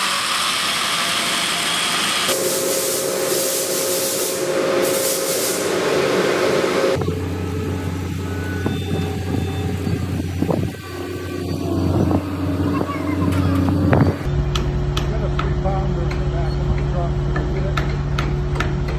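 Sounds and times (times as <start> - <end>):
heavy machine engine humming: 0.0 - 18.9.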